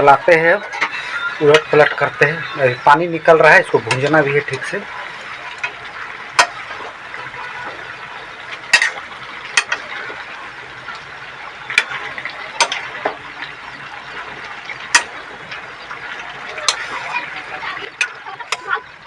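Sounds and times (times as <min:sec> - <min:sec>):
chicken sizzling in a pot: 0:00.0 - 0:19.0.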